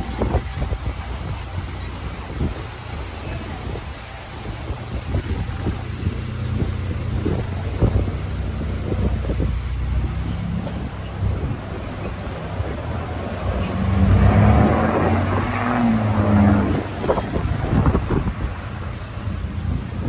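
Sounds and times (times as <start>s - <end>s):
city street traffic: 0.0s - 20.0s
heavy engine passing: 0.0s - 20.0s.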